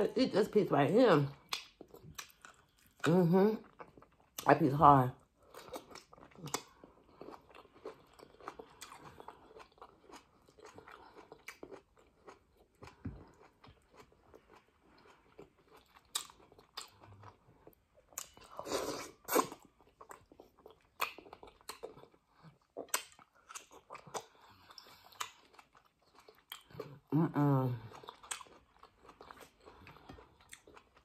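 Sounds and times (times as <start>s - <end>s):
chewing meat with wet smacks: 1.4s - 4.5s, 5.2s - 18.6s, 19.2s - 27.1s, 27.8s - 31.0s.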